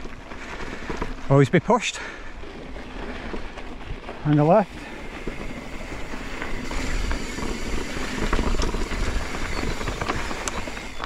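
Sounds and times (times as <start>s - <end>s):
bike tyres on gravel: 0.0s - 11.0s.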